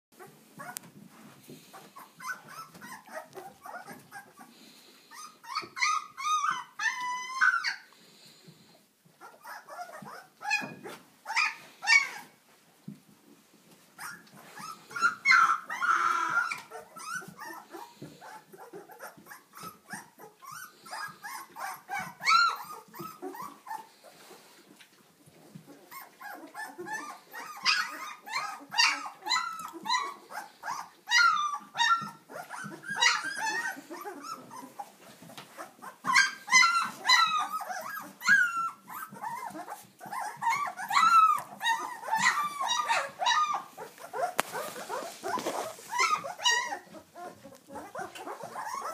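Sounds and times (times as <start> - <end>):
puppies whimpering and squealing: 0.2 - 12.4, 13.7 - 48.9.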